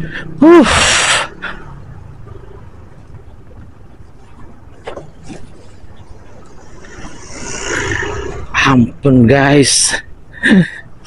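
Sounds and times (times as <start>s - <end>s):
road and wind noise: 0.0s - 11.0s
vehicle rumble: 0.0s - 11.0s.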